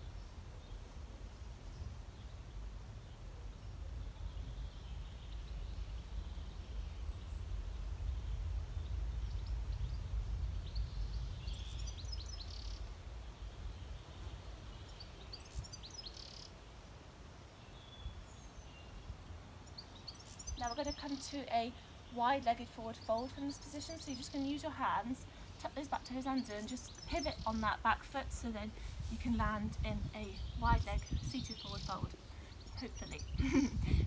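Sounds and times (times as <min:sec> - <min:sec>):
low outdoor rumble: 0:00.0 - 0:15.3, 0:20.4 - 0:34.0
small birds chirping: 0:00.0 - 0:34.0.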